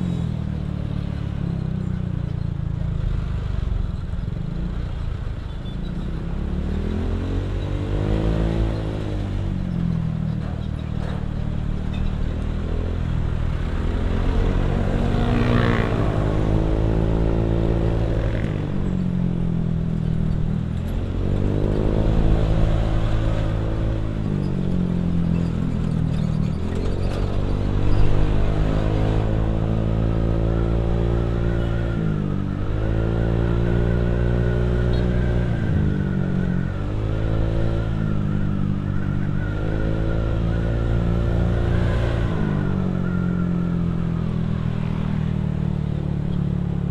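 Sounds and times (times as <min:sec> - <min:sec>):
motorcycle engine accelerating: 0:06.2 - 0:46.9.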